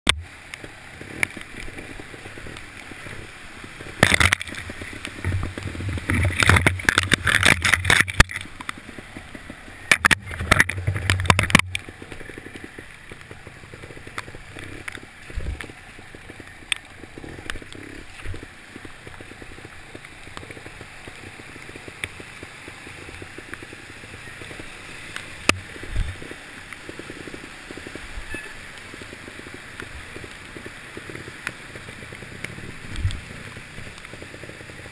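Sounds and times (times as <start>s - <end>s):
water splashing around wheels: 0.1s - 34.9s.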